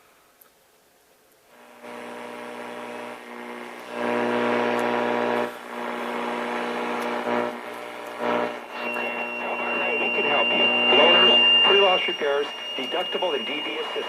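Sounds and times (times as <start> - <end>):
radio static hiss: 1.5 - 14.0
car radio humming: 1.9 - 14.0.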